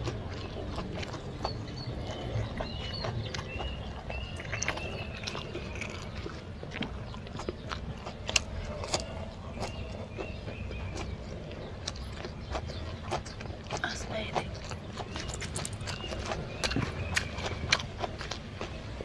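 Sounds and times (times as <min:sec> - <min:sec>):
person chewing and lip-smacking: 0:00.0 - 0:19.0.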